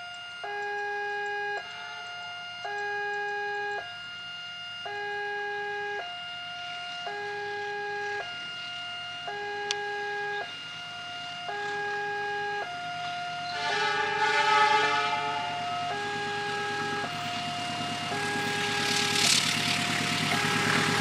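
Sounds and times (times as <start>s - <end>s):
level crossing two-tone alarm: 0.0s - 21.0s.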